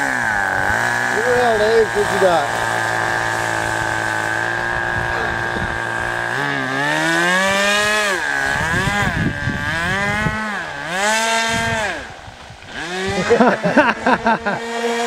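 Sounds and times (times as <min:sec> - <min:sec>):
model boat motor running: 0:00.0 - 0:15.0.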